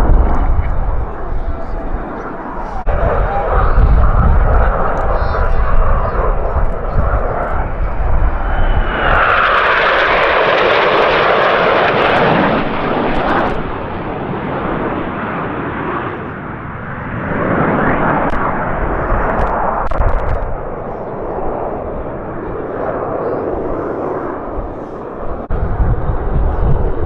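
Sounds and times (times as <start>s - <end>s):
jets roaring overhead: 0.0s - 27.0s.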